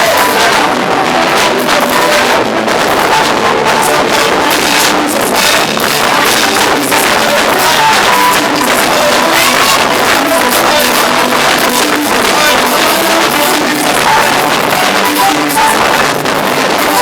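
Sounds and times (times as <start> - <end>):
loud band music: 0.0 - 17.0.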